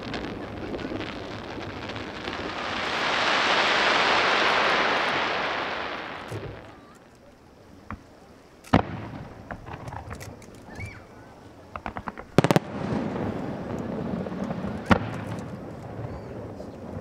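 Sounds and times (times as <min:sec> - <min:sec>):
fireworks bangs: 0:00.0 - 0:07.0, 0:07.8 - 0:10.4, 0:11.6 - 0:17.0
fireworks crackling pops: 0:00.0 - 0:17.0.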